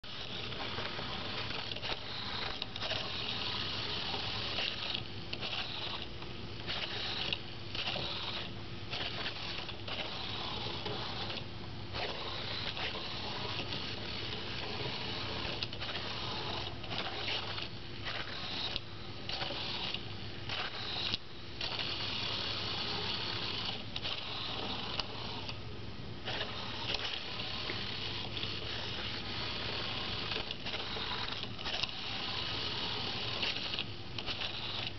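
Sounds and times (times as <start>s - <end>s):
small motors whining: 0.2s - 6.1s, 6.7s - 25.6s, 26.2s - 34.9s.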